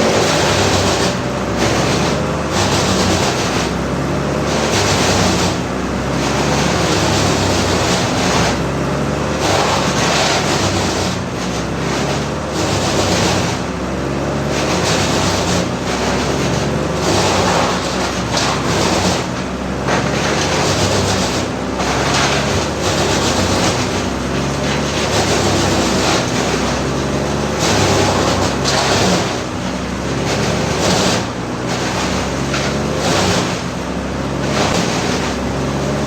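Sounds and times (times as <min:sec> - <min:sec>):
woodchipper engines droning: 0:00.0 - 0:36.0.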